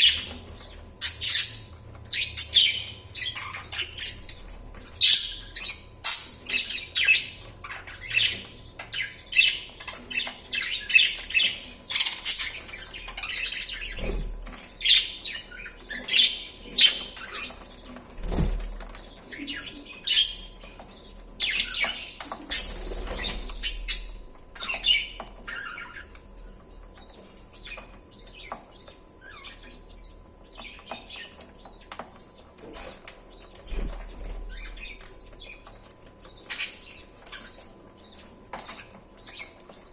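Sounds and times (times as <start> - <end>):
budgerigars chirping: 0.0 - 18.0, 18.8 - 26.2, 26.9 - 39.9.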